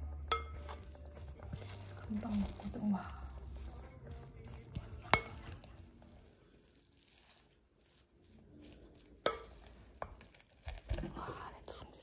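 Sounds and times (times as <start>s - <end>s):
spatula stirring rice in pot: 0.0s - 12.0s.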